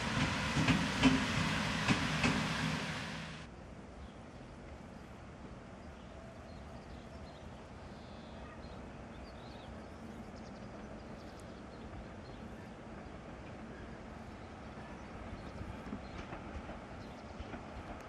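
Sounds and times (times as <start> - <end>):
electric train low rumble and hum: 0.0 - 18.0.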